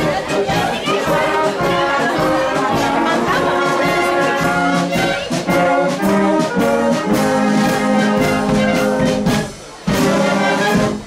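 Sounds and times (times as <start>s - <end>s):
brass instruments playing chords: 0.0s - 11.0s
steady beat: 0.0s - 11.0s.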